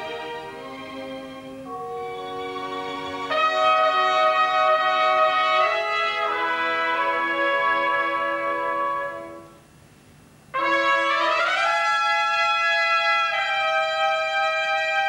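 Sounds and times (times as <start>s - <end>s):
trumpets playing in harmony: 0.0s - 9.6s, 10.5s - 15.0s.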